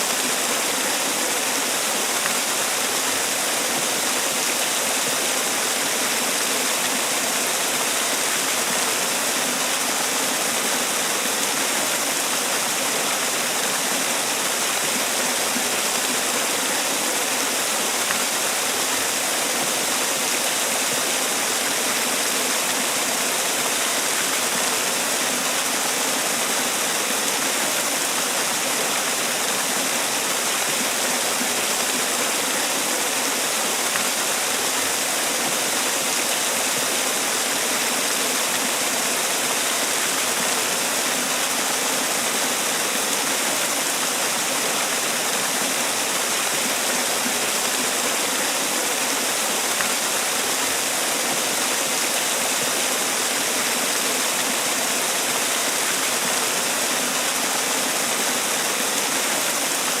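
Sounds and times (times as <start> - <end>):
waterfall splashing: 0.0 - 60.0.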